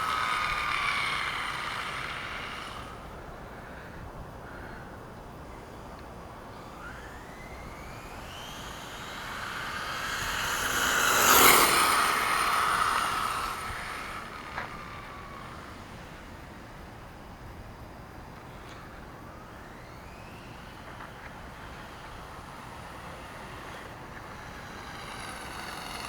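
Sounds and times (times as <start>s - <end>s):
two-stroke engine revving: 0.0s - 3.4s, 5.6s - 16.4s, 18.5s - 26.0s.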